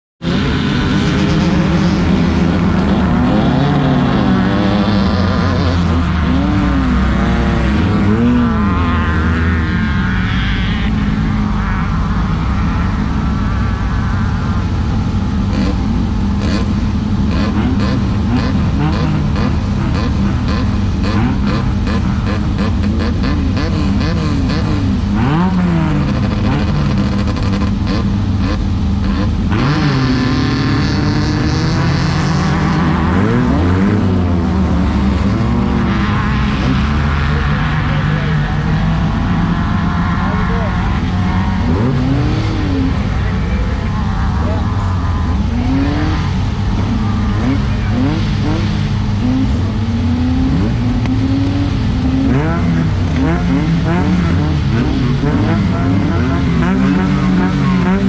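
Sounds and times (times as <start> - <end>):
buggy engine running hard: 0.2 - 58.0.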